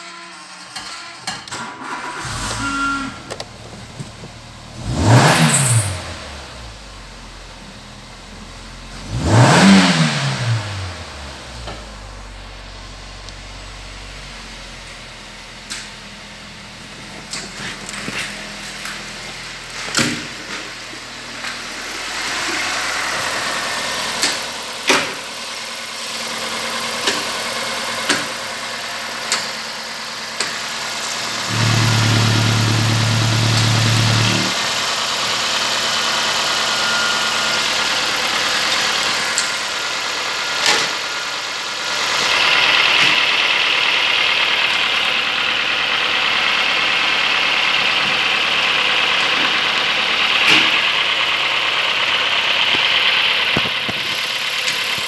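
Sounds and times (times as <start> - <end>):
car engine idling: 1.8 - 55.0.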